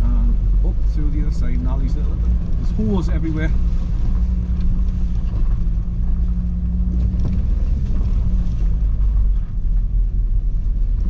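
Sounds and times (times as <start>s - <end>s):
low engine drone: 0.0s - 11.0s
tyres rumbling over rough ground: 0.0s - 11.0s.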